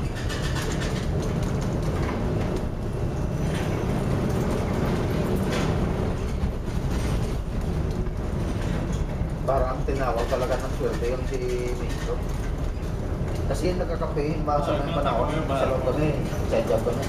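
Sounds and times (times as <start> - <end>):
low rumbling of ship at sea: 0.0 - 17.0.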